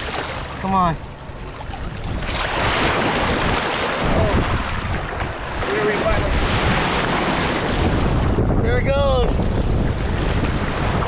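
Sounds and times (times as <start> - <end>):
surf washing over sand: 0.0 - 11.0
wind buffeting microphone: 0.0 - 11.0.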